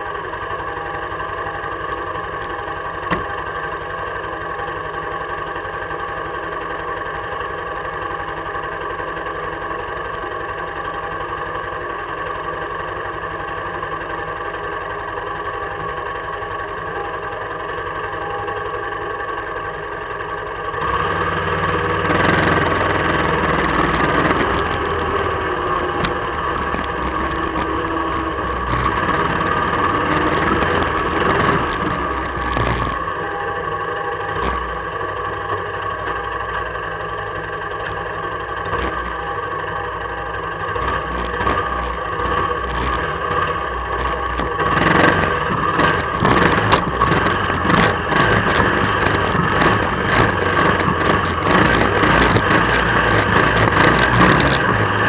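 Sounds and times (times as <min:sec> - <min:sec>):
knocks and rattles of vehicle: 0:00.0 - 0:55.0
quad bike engine running: 0:00.0 - 0:55.0.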